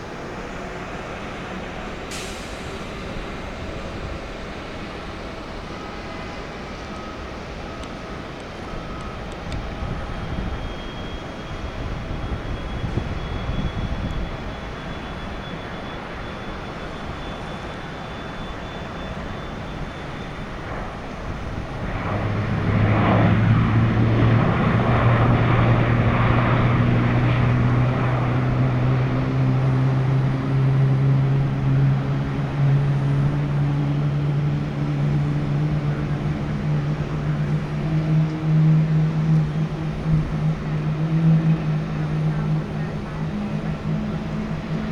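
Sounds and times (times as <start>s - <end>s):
jet engine spooling up: 0.0s - 44.9s.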